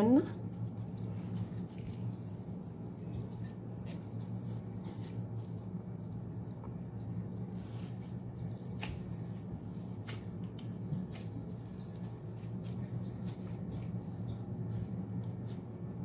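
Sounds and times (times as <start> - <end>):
steady low hum: 0.0 - 16.0
soft squishing of meat: 0.3 - 16.0.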